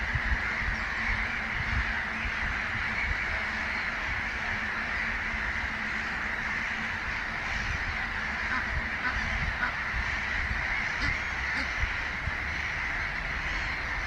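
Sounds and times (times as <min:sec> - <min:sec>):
geese and goslings calling: 0:00.0 - 0:14.0.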